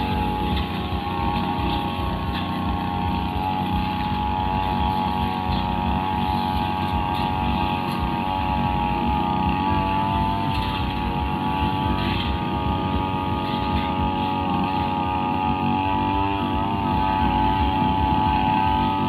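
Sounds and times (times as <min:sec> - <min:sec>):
brushcutter engine cutting grass: 0:00.0 - 0:19.0.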